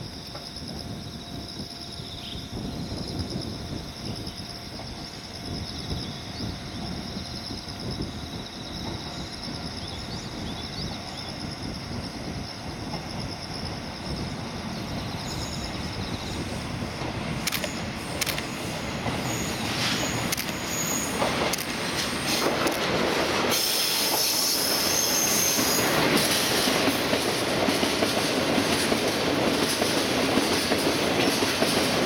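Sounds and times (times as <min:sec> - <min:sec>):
diesel train rumbling: 0:00.0 - 0:32.0.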